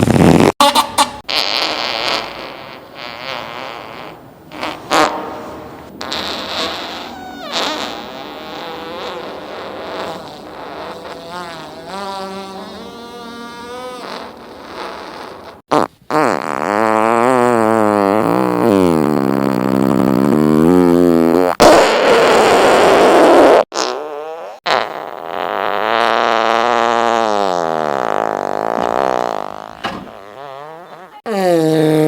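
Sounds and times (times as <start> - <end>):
fart sound effects: 0.0 - 32.0.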